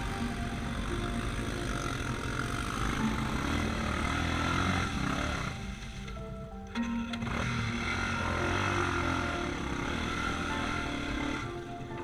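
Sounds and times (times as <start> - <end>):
quad engine running: 0.0 - 6.2, 6.8 - 12.0.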